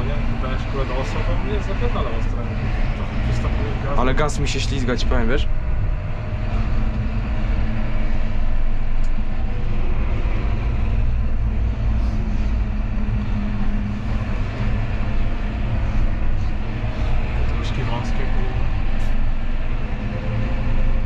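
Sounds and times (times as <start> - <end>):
tractor engine hum from cab: 0.0 - 21.0.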